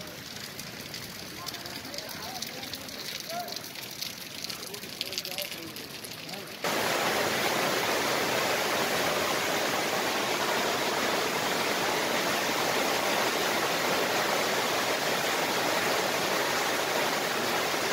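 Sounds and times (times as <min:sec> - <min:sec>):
floodwater rushing and churning: 0:00.0 - 0:17.9.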